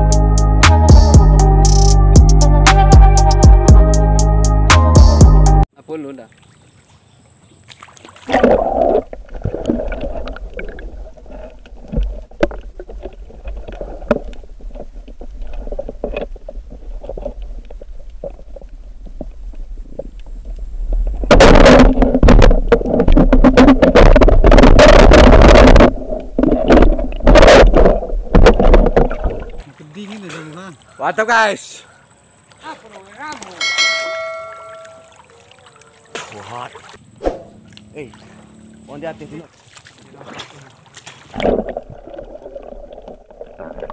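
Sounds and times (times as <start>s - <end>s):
water sloshing and gurgling: 6.1s - 31.0s, 32.3s - 43.9s.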